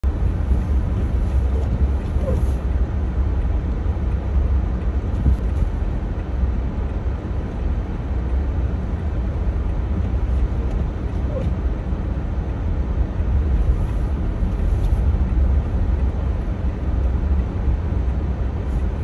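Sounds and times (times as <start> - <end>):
car interior rumble: 0.0 - 19.0.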